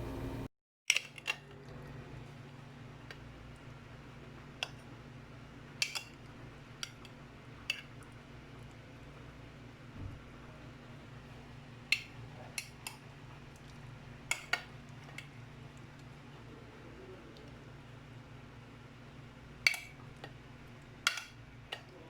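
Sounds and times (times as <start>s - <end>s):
low steady hum: 0.0s - 0.5s, 1.1s - 22.0s.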